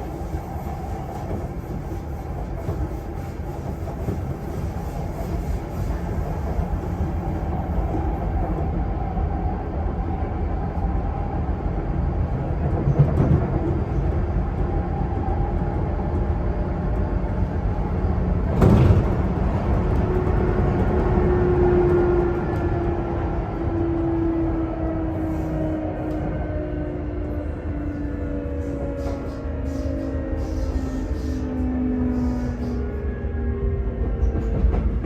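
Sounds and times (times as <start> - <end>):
rumble of train wheels: 0.0 - 35.0.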